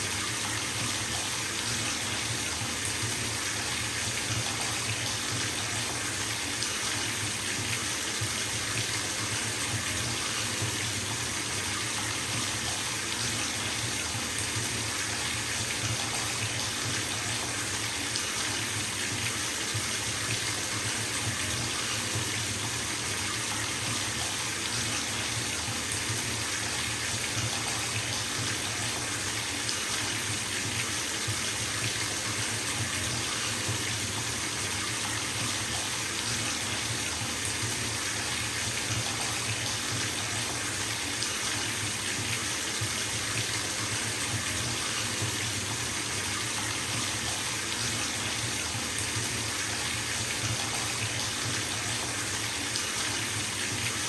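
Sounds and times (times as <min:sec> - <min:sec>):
water running from tap into tub: 0:00.0 - 0:54.0.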